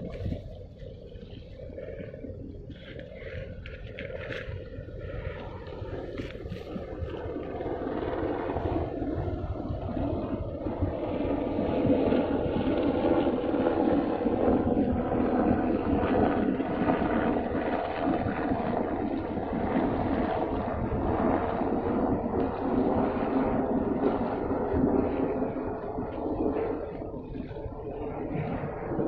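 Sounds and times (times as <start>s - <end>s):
ship machinery drone: 0.0s - 29.0s
wind rumbling on microphone: 0.0s - 29.0s.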